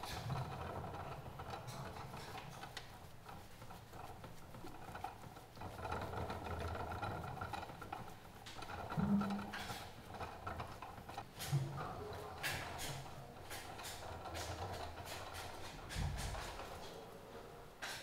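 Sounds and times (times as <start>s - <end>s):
mechanical whirring hum: 0.0s - 18.0s.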